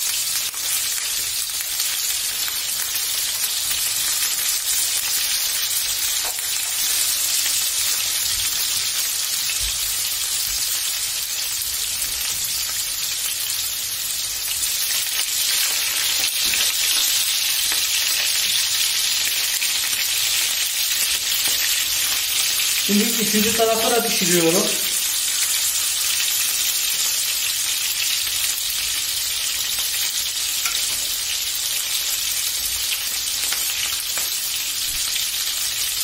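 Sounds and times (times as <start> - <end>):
chicken frying in oil: 0.0 - 36.0.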